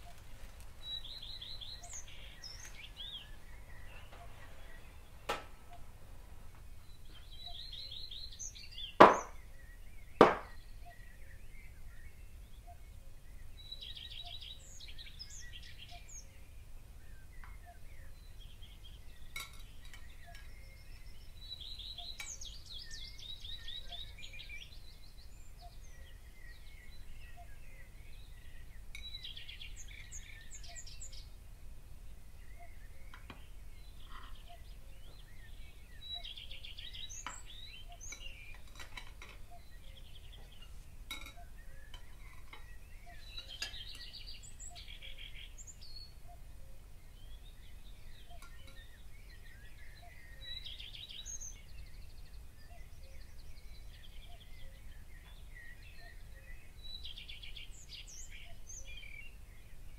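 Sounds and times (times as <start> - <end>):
birds chirping trills: 0.0 - 59.9.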